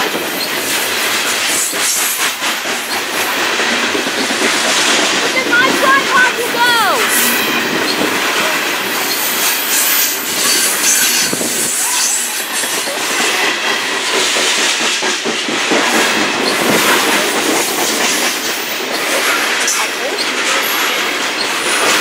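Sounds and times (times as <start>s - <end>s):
train cars rolling and rattling: 0.0s - 22.0s
wheels clicking over rail joints: 0.0s - 22.0s.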